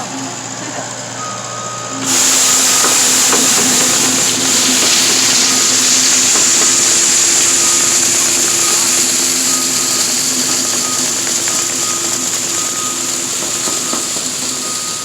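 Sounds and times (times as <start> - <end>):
engine and hydraulic hum: 0.0 - 15.0
reversing beeps: 0.0 - 15.0
broom sweeping stone hiss: 2.0 - 15.0.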